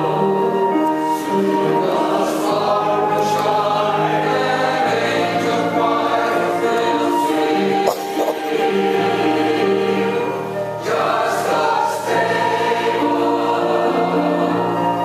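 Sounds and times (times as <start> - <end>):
church choir singing: 0.0 - 15.0
flute playing: 0.0 - 15.0.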